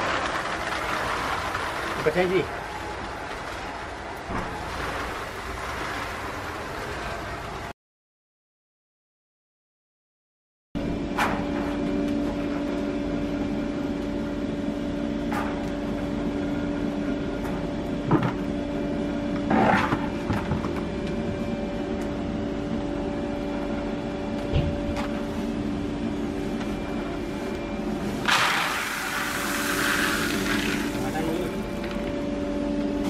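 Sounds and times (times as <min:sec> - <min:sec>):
low machine hum: 0:00.0 - 0:07.7, 0:10.8 - 0:33.0.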